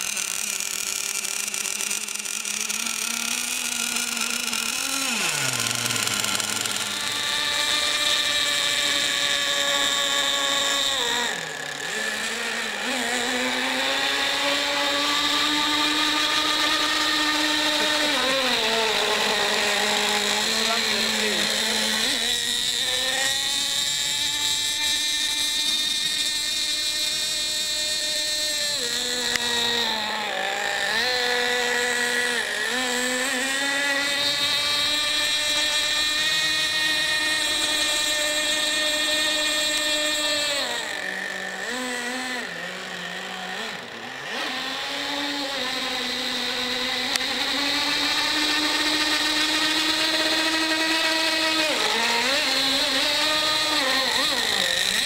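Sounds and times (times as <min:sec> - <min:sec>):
model speedboat motor whining: 0:00.0 - 0:55.0.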